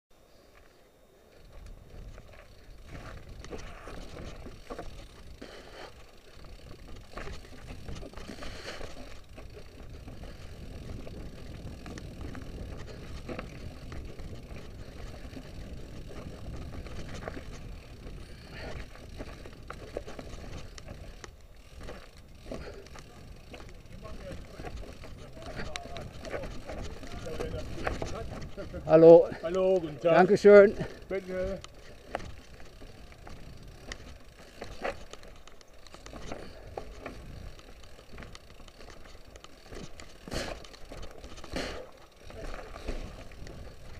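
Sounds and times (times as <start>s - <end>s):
bike clicks and knocks: 1.3s - 43.9s.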